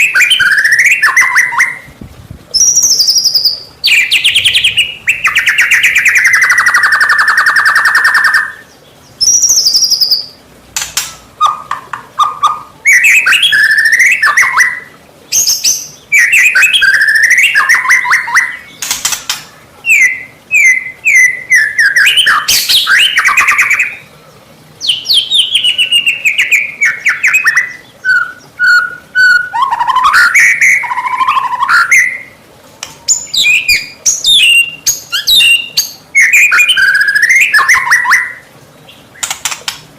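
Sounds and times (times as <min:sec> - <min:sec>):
songbird whistles and trills: 0:00.0 - 0:01.9, 0:02.5 - 0:24.1, 0:24.8 - 0:39.8.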